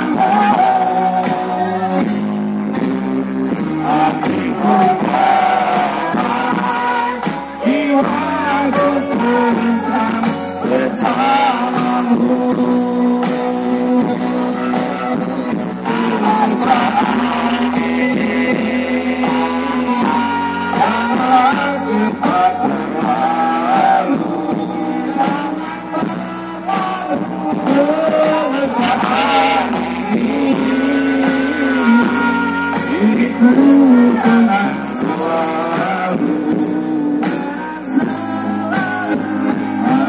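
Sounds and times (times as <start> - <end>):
loud amplified music with bass: 0.0 - 40.0
voices singing into microphones: 0.0 - 40.0.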